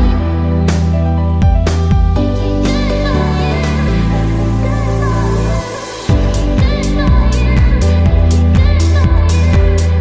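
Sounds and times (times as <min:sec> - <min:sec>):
held bass and chords: 0:00.0 - 0:10.0.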